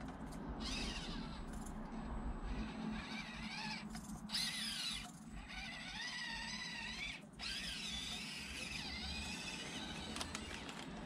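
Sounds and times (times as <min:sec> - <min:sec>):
toy truck motor whining: 0:00.6 - 0:01.7, 0:02.5 - 0:11.0.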